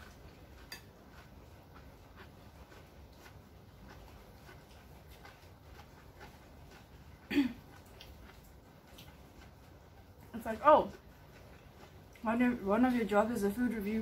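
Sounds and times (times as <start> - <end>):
chewing: 0.0 - 14.0.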